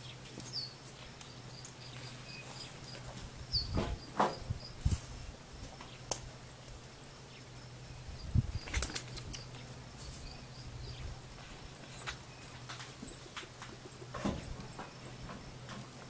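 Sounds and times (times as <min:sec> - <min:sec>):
pony hooves on packed dirt: 0:00.0 - 0:06.9, 0:08.1 - 0:16.0.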